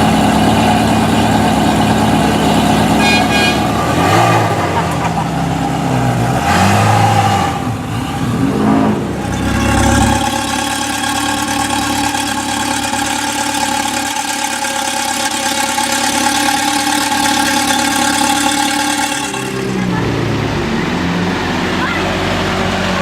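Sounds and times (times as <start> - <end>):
car engine idling: 0.0 - 23.0
car engine revving: 0.0 - 23.0.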